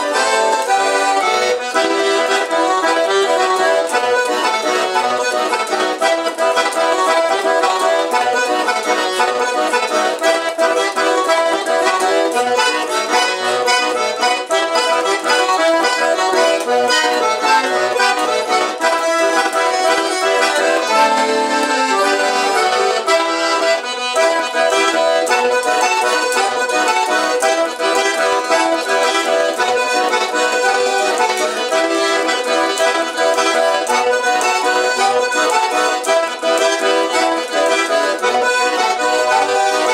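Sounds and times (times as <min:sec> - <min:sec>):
button accordions playing: 0:00.0 - 0:39.9.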